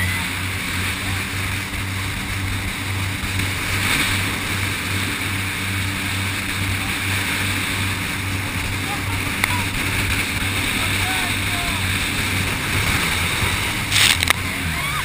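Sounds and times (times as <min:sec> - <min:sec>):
boat engine droning: 0:00.0 - 0:15.0
rushing water: 0:00.0 - 0:15.0
wind: 0:00.0 - 0:15.0.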